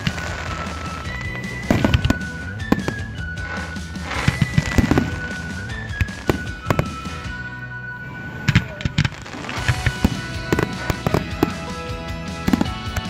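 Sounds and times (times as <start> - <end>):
fireworks bangs and pops: 0.0 - 7.5, 8.4 - 13.0
background music: 0.0 - 13.0.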